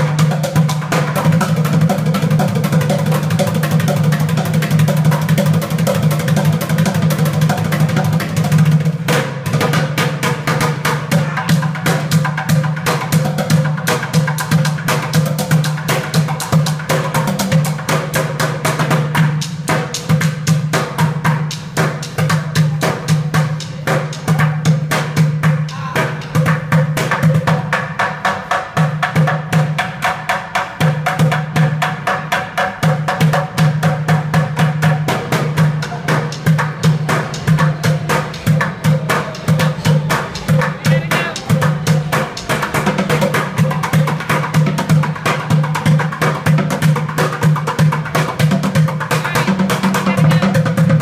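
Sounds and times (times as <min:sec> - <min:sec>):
bucket drumming: 0:00.0 - 0:51.0.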